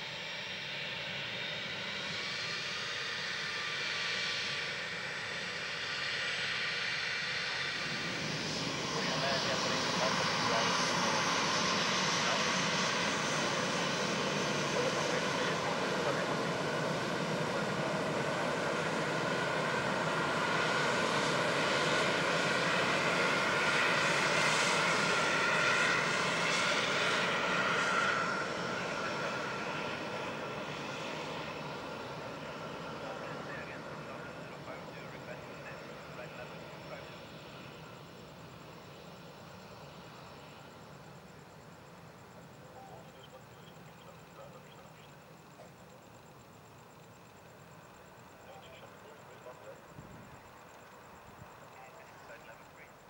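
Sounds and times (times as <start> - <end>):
jet engines whining at taxi power: 0.0 - 53.0.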